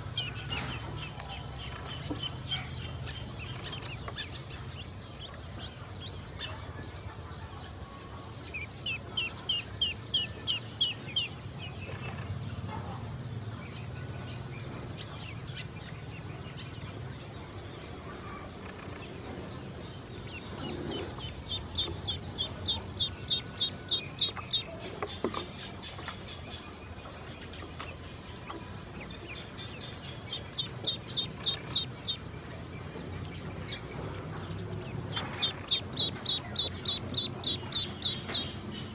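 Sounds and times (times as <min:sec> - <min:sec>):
ducklings peeping: 0:00.0 - 0:12.8, 0:13.6 - 0:38.9.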